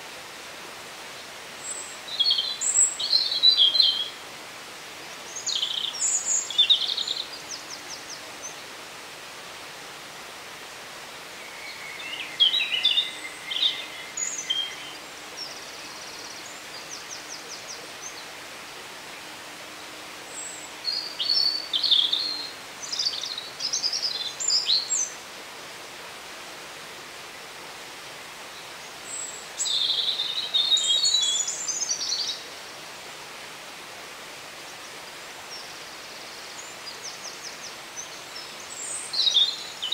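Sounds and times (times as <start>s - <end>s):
steady background hiss: 0.0s - 39.9s
songbirds singing: 1.1s - 8.9s, 11.0s - 26.2s, 28.1s - 32.9s, 34.5s - 39.9s.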